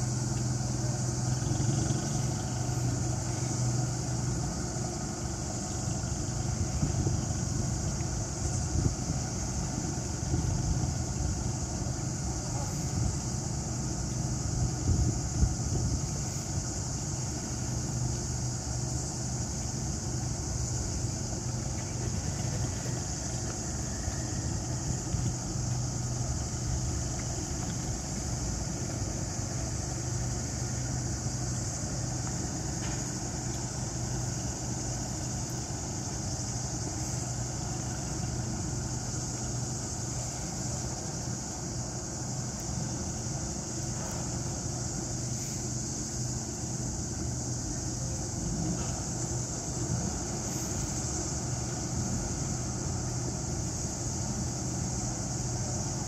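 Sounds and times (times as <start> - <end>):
high-pitched hiss: 0.0 - 56.0
ship engines idling: 0.0 - 56.0.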